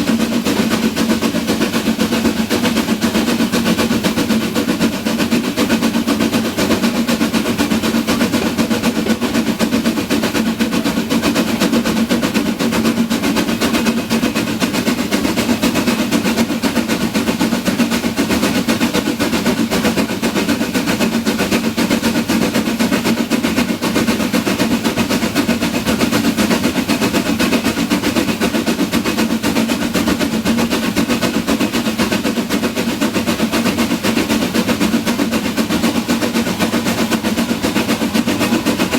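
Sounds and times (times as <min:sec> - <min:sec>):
steam train rapid rattle: 0:00.0 - 0:38.9.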